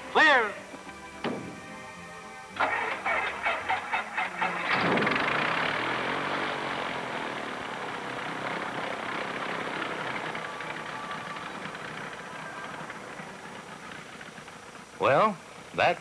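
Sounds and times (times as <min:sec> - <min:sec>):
propeller turning: 0:01.4 - 0:15.7
light aircraft engine running: 0:02.6 - 0:15.8.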